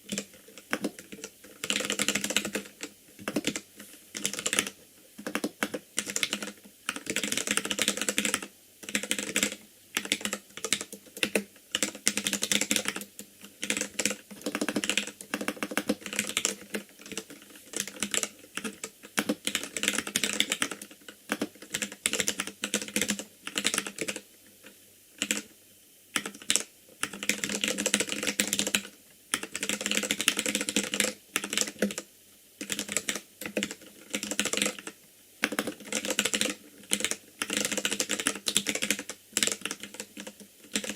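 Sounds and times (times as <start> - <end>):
mechanical keyboard typing: 0.1 - 24.2, 25.2 - 25.5, 26.2 - 40.9.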